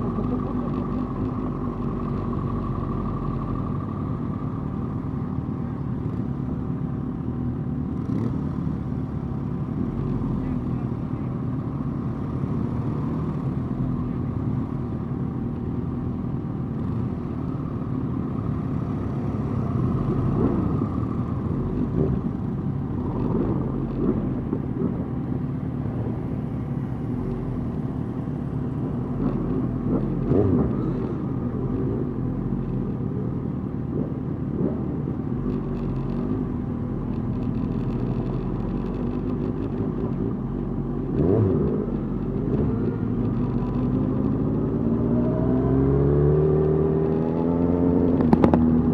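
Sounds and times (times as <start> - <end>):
motorcycle engines running: 0.0 - 48.9.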